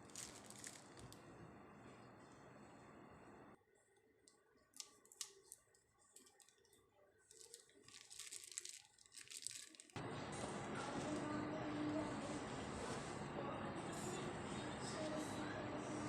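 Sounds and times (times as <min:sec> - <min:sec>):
faint crackling handling sounds: 0:00.0 - 0:13.4.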